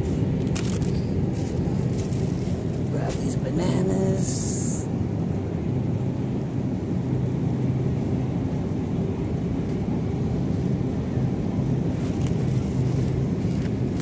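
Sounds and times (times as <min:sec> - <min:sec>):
refrigerated display case humming: 0:00.0 - 0:14.0.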